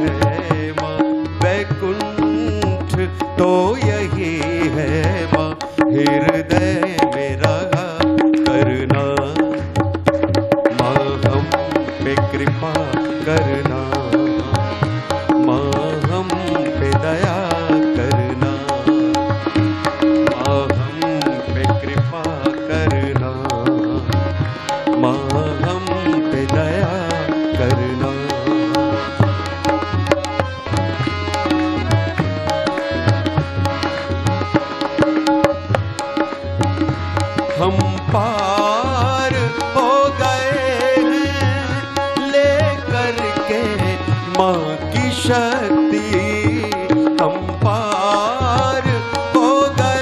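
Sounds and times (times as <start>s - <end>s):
harmonium melody: 0.0s - 50.0s
tabla and dholak rhythm: 0.0s - 50.0s.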